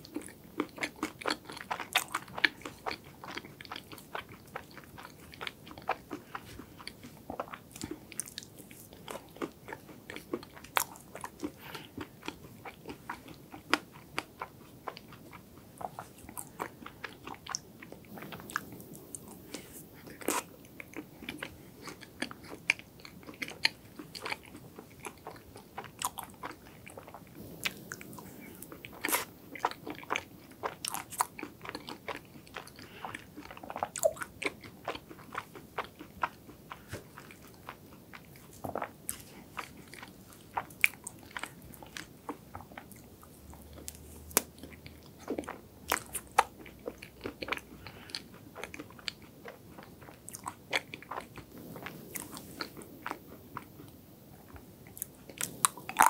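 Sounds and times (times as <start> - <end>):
chewing crunchy cake: 0.0 - 56.0.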